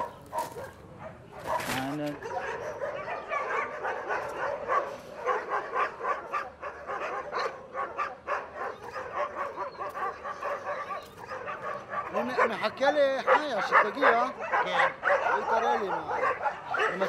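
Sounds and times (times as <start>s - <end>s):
many dogs barking: 0.0s - 17.0s.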